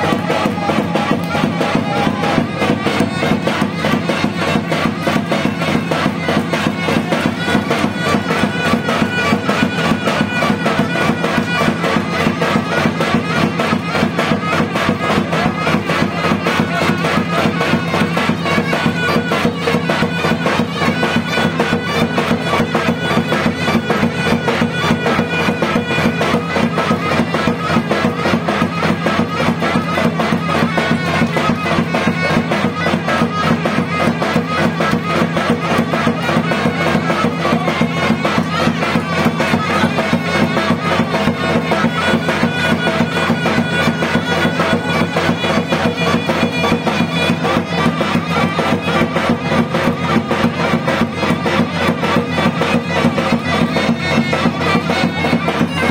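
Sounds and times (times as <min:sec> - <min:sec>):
fast even drumbeat: 0:00.0 - 0:55.9
reed wind instrument folk melody: 0:00.0 - 0:55.9.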